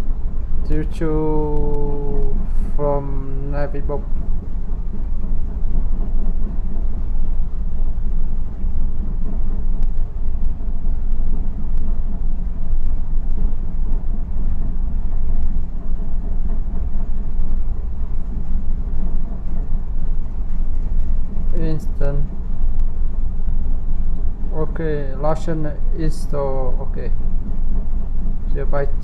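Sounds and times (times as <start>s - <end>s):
low ship machinery drone: 0.0s - 29.0s.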